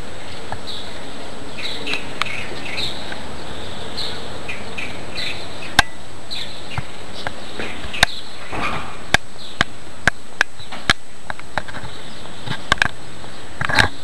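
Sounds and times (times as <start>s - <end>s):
small birds chirping: 0.0s - 14.0s
steady hiss: 0.0s - 14.0s.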